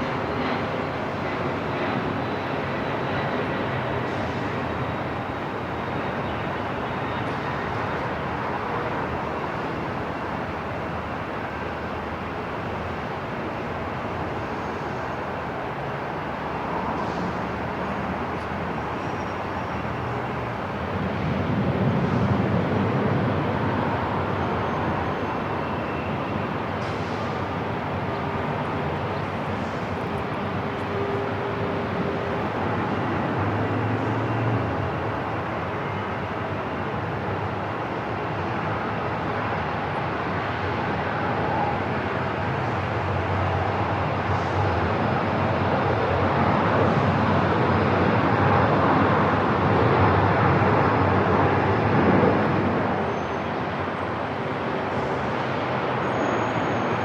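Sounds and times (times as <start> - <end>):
airport rumble and hiss: 0.0 - 57.0.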